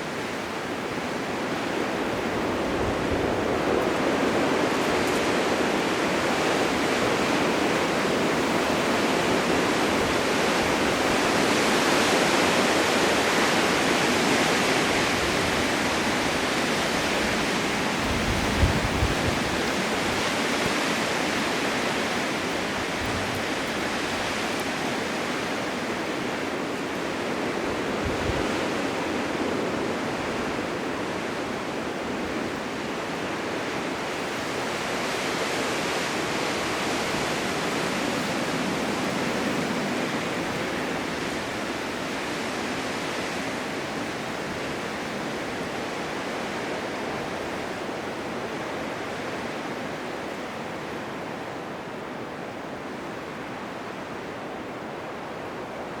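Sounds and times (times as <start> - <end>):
blizzard wind rushing: 0.0 - 56.0.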